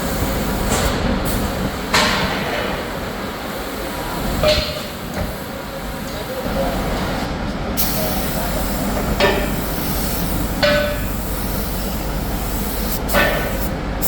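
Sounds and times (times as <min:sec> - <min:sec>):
machine shop noise: 0:00.0 - 0:14.0.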